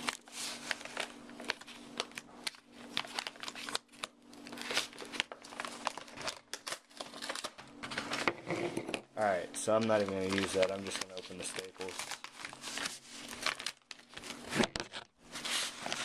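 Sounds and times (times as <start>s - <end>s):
paper package crinkling: 0.0s - 8.4s, 9.5s - 16.0s.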